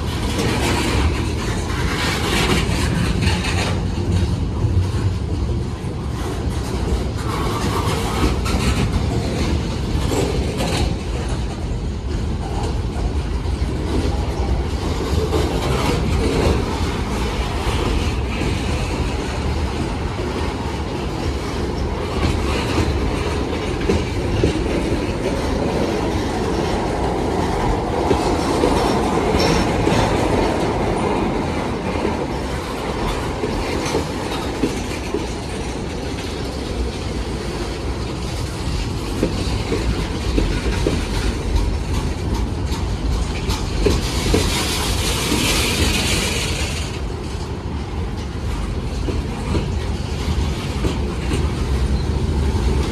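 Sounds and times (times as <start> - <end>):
train rumbling along rails: 0.0 - 52.9.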